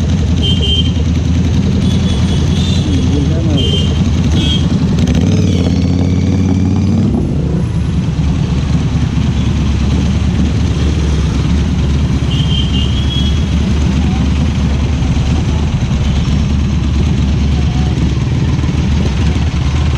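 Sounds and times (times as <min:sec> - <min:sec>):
motorcycle engine and exhaust running: 0:00.0 - 0:19.9.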